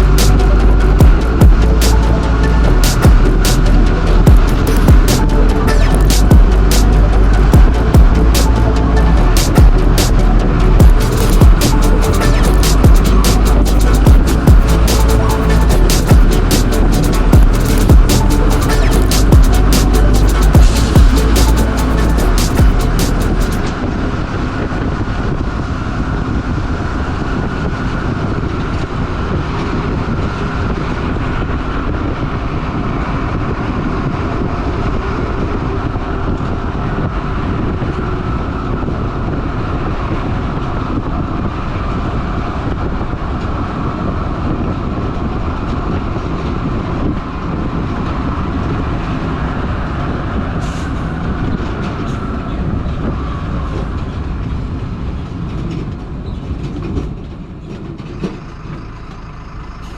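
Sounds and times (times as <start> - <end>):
truck driving: 0.0 - 59.9.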